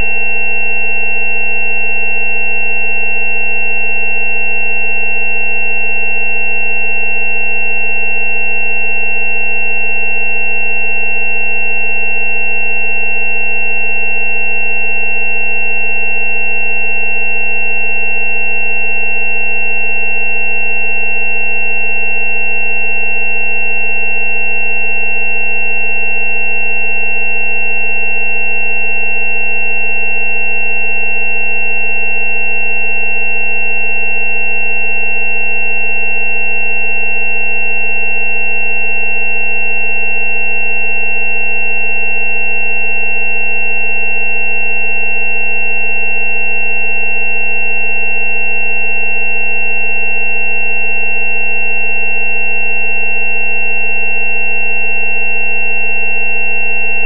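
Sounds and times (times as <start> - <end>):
synthesized sine-wave tones: 0.0 - 57.0.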